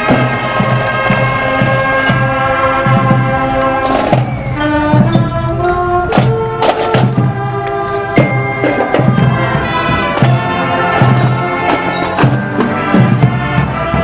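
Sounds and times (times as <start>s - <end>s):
sharp percussion hits: 0.0s - 13.5s
marching band chords: 0.0s - 14.0s.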